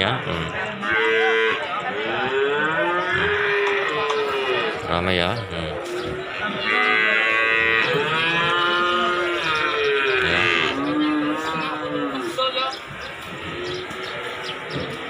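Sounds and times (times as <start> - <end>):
cattle mooing: 0.0 - 4.9, 5.7 - 12.6, 13.3 - 15.0.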